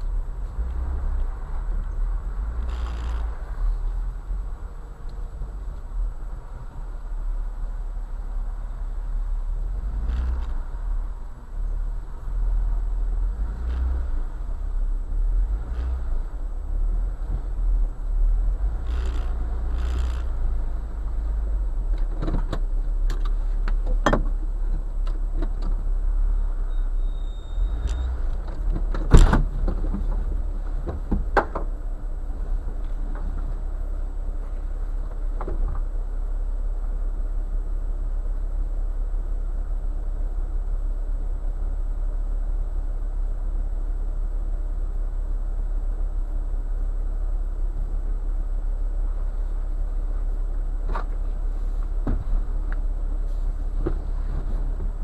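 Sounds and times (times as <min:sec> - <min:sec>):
off-road vehicle engine rumbling: 0:00.0 - 0:55.0.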